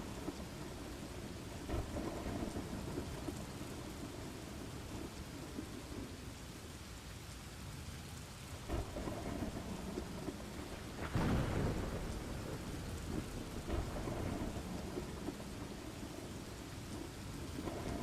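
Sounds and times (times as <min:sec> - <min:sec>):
rolling thunder: 0:00.0 - 0:06.1, 0:08.7 - 0:18.0
steady rain: 0:00.0 - 0:18.0.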